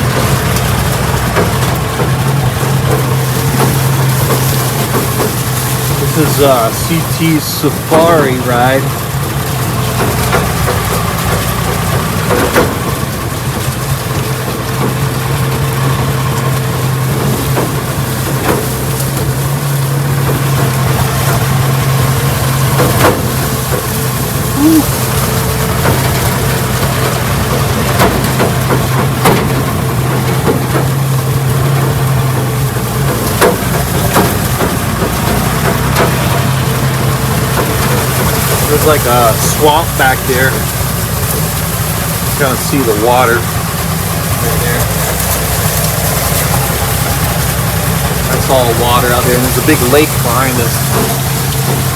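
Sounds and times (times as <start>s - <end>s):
truck engine running at low speed: 0.0s - 51.9s
truck knocking and rattling: 0.0s - 51.9s.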